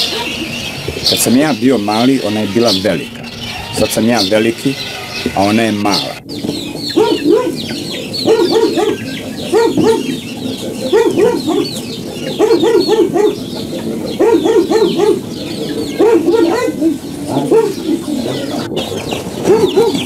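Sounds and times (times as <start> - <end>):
chickens clucking: 0.0 - 20.0
high chirping: 0.0 - 20.0.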